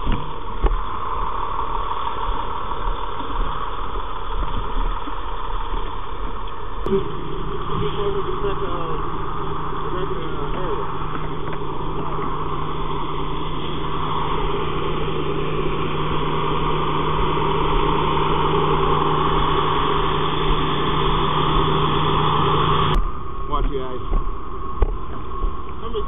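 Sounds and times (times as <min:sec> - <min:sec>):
fire truck engine running: 0:00.0 - 0:26.0.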